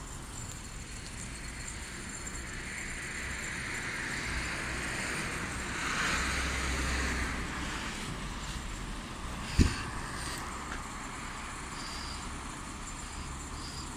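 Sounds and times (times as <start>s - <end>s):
car passing: 1.5s - 13.9s.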